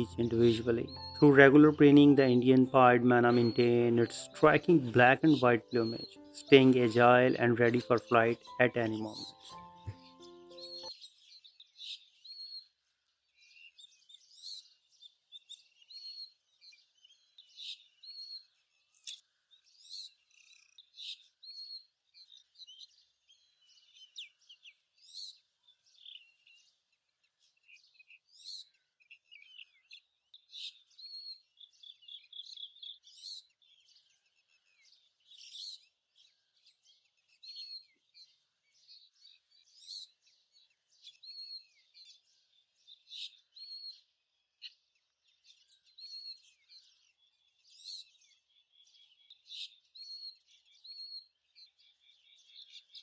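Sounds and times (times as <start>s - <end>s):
faint birdsong chorus: 0.0s - 53.0s.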